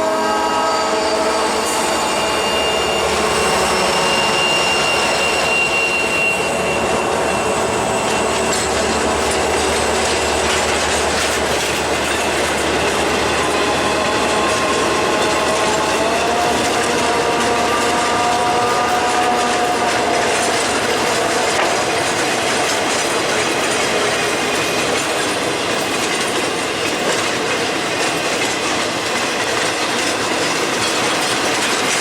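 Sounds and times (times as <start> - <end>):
freight train rumbling on rails: 0.0 - 32.0
wheels squealing on rails: 0.0 - 32.0.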